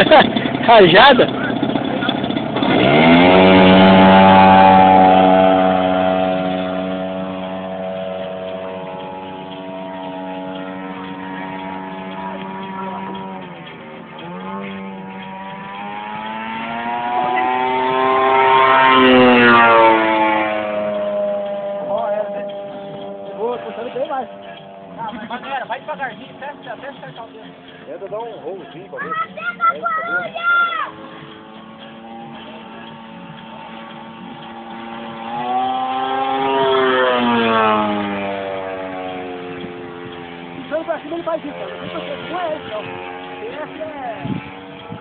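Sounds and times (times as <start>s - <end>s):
model airplane engine passing: 0.0s - 45.0s.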